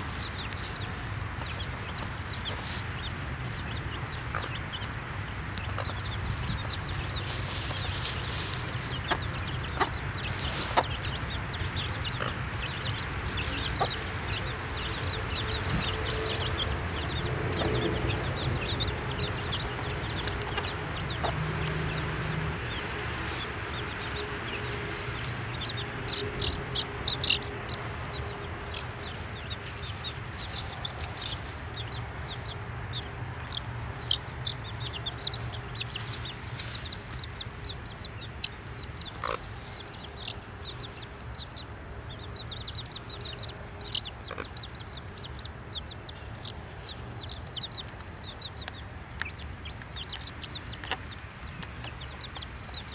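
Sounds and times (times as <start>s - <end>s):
baby chicks peeping: 0.0s - 52.9s
low background rumble: 0.0s - 52.9s.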